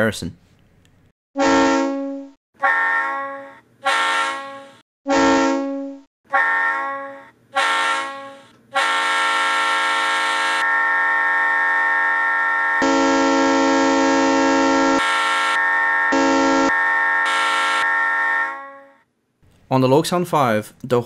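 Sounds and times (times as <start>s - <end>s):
diesel locomotive horn toots: 1.4s - 19.0s.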